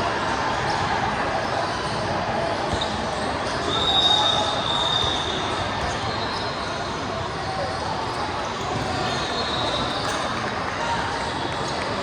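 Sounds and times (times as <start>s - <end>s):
hubbub of basketball play: 0.0s - 12.0s.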